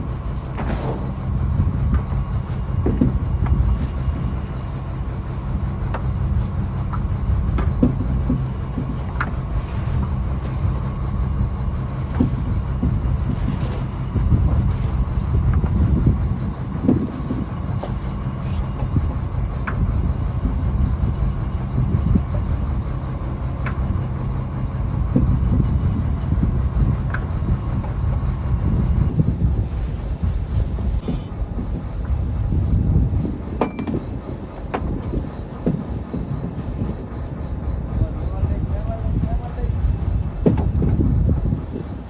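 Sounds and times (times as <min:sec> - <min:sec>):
boat diesel engine droning: 0:00.0 - 0:42.0.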